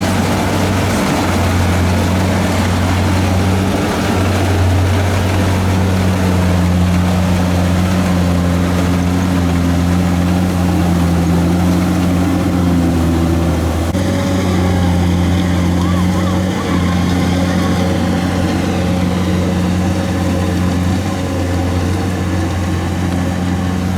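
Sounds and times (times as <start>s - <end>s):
combine harvester engine running: 0.0s - 23.9s.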